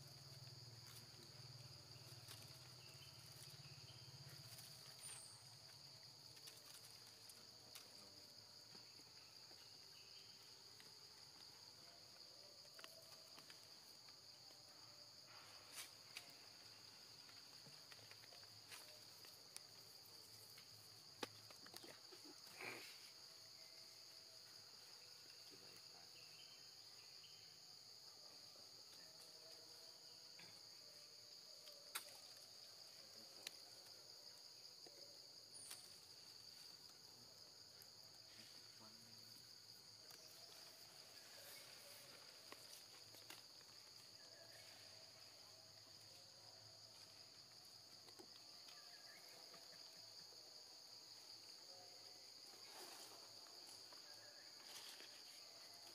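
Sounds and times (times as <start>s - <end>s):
faint high insect chorus: 0.0s - 55.9s.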